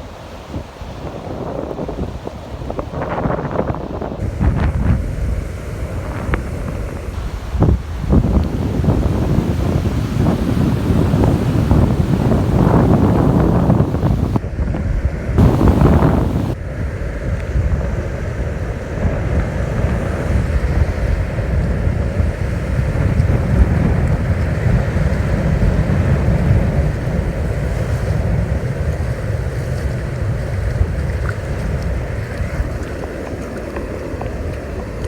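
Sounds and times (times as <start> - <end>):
surf washing: 0.0 - 35.0
wind buffeting microphone: 0.0 - 35.0.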